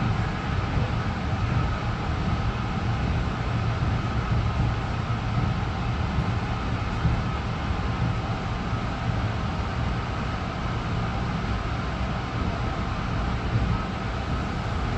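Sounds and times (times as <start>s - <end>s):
faint steady whine: 0.0s - 14.9s
train wheels rumbling on rail: 0.0s - 14.9s.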